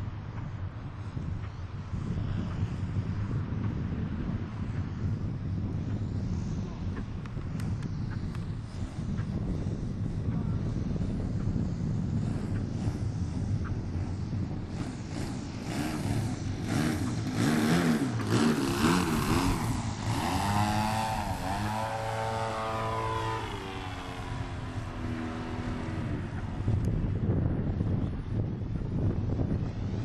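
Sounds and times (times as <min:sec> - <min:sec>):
model airplane engine and propeller: 0:00.0 - 0:30.0.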